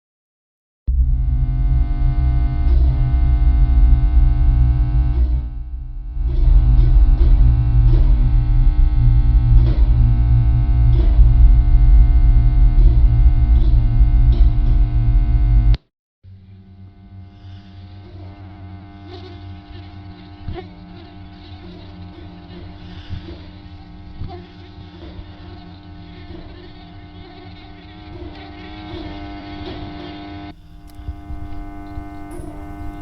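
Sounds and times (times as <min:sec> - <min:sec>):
distorted electric guitar chords: 0:00.9 - 0:15.8, 0:16.4 - 0:33.0.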